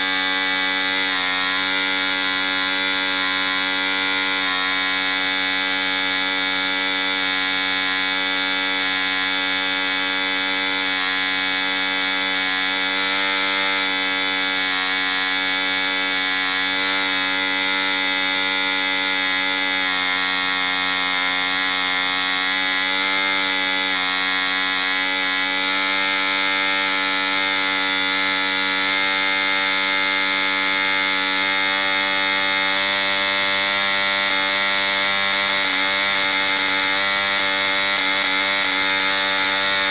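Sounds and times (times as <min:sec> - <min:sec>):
model engine high-pitched buzz: 0:00.0 - 0:39.9.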